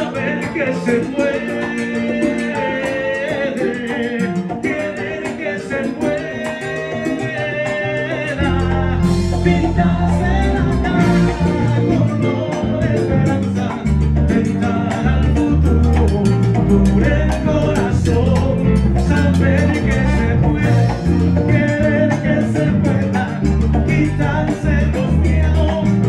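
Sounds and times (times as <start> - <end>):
live salsa band playing: 0.0 - 26.0
low bass notes: 0.0 - 26.0.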